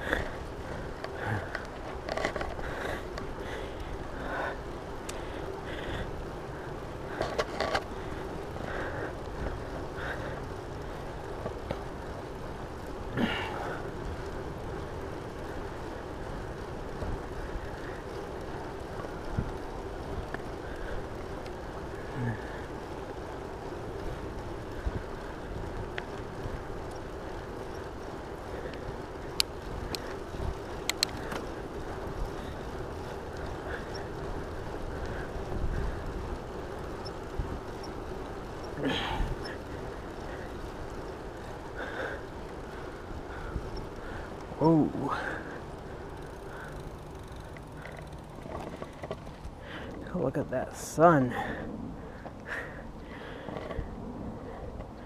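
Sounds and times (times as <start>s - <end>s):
bike clicks and rattles: 0.0s - 55.0s
tyres rolling on asphalt: 0.0s - 55.0s.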